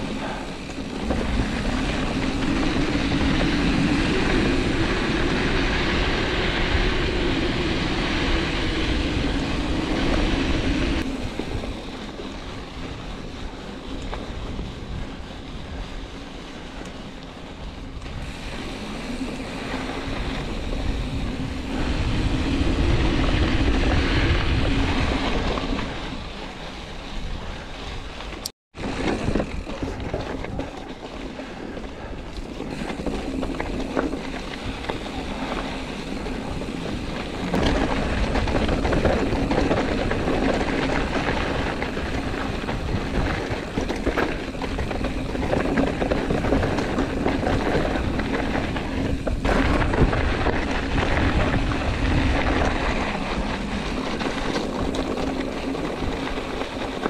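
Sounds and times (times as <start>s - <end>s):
bike rattling: 0.0s - 57.0s
wind buffeting microphone: 0.0s - 57.0s.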